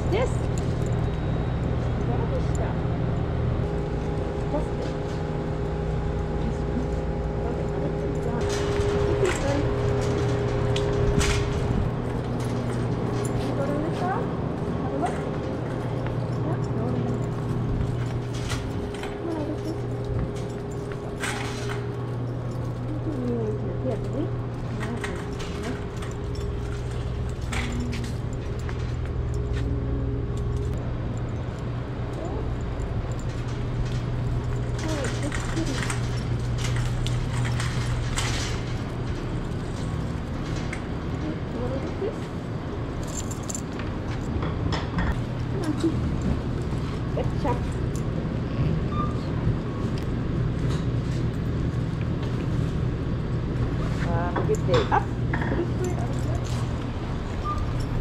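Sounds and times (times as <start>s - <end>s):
low background hum: 0.0s - 58.0s
shopping cart rolling: 0.0s - 58.0s
cart rattling clicks: 3.6s - 48.2s, 53.5s - 58.0s.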